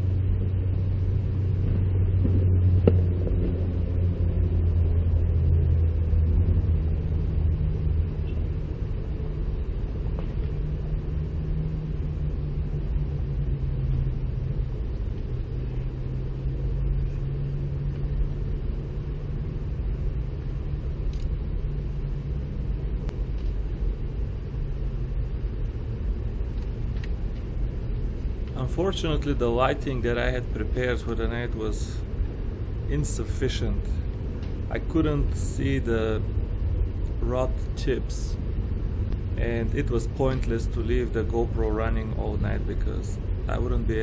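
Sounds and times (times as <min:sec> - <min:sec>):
low engine-like rumble and hum: 0:00.0 - 0:44.0.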